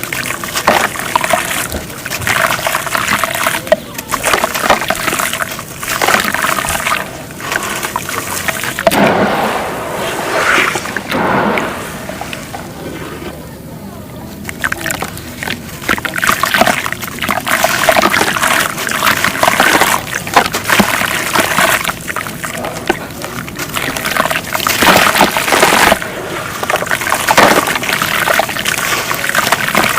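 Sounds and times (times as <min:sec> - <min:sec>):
wet paste squished and stirred: 0:00.0 - 0:09.1, 0:14.4 - 0:29.9.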